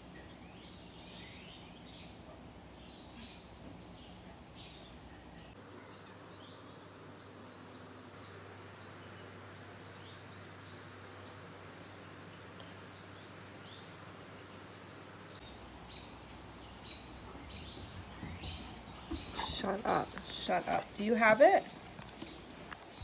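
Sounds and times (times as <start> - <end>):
outdoor background hiss: 0.0 - 23.0
songbirds chirping: 0.0 - 23.0.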